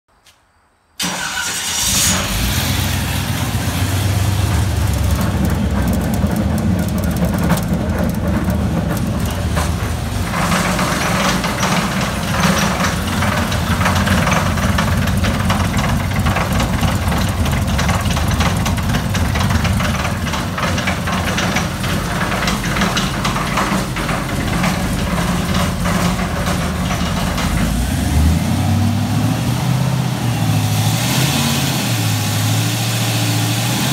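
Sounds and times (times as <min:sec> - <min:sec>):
engine starting and running: 0:01.0 - 0:33.9.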